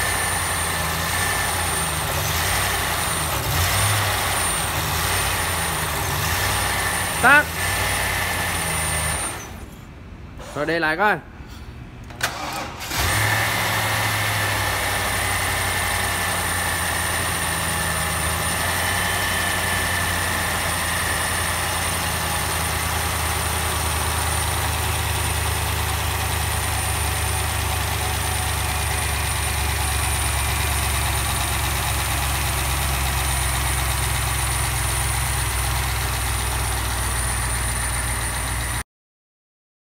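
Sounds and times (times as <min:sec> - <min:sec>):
car engine starting and idling: 0:00.0 - 0:09.9, 0:12.0 - 0:38.8.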